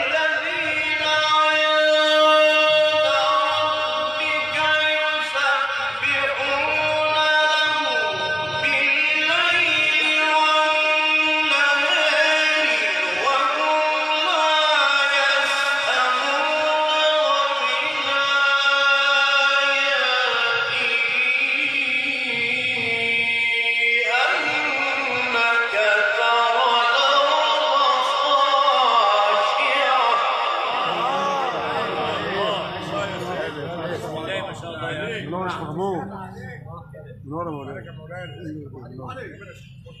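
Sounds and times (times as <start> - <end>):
man reciting in melodic chant: 0.0 - 40.0.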